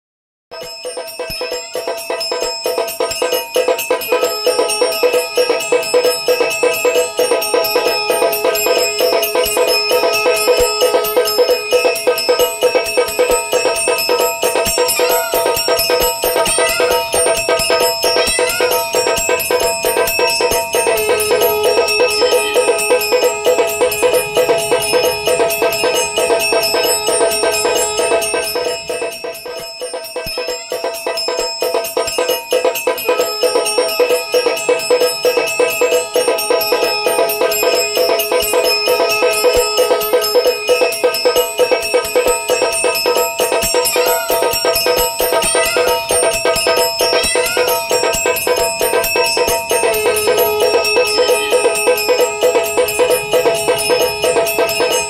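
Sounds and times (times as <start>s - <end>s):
small bell struck rapidly: 0.5s - 55.0s
drum beating: 0.6s - 55.0s.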